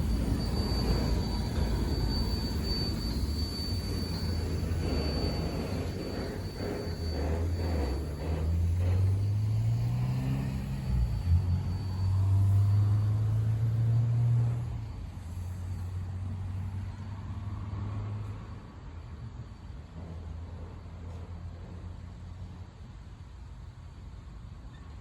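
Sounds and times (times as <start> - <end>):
engine rumbling: 0.0 - 24.6.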